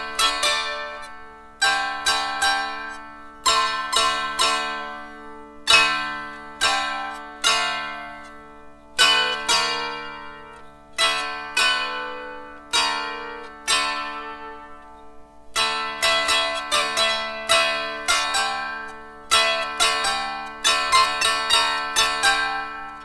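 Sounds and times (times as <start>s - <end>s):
dulcimer strummed slowly: 0.0s - 23.0s.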